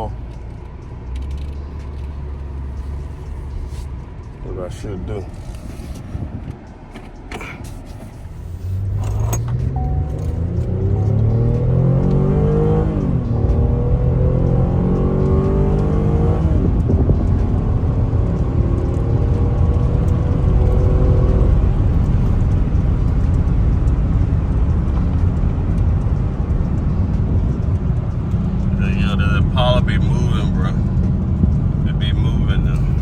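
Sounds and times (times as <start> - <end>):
car engine accelerating: 0.0 - 33.0
road and wind rumble: 0.0 - 33.0.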